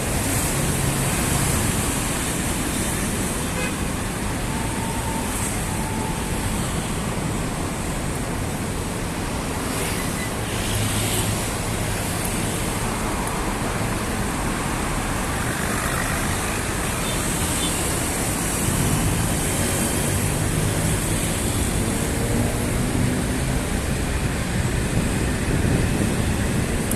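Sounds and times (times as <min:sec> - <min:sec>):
traffic rushing past: 0:00.0 - 0:26.9.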